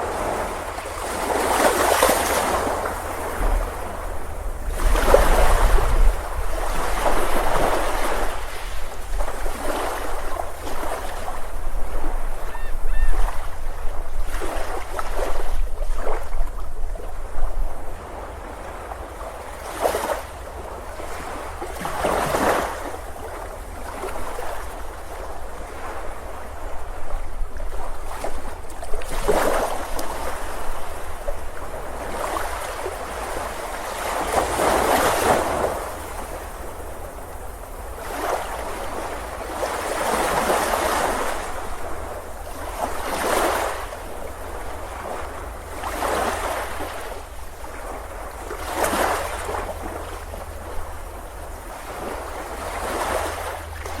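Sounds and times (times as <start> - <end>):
low rumble of surf: 0.0 - 54.0
sea waves washing onto beach: 0.0 - 54.0.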